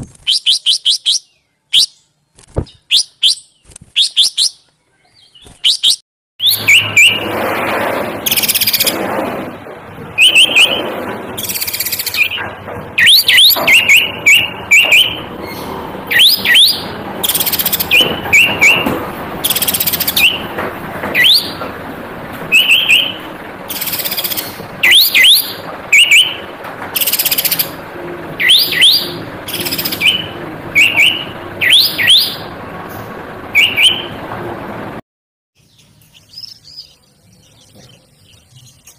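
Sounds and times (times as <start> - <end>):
bird chirping: 0.2 - 7.3, 10.2 - 21.6, 22.5 - 27.8, 28.4 - 32.5, 33.5 - 34.2, 35.6 - 38.9.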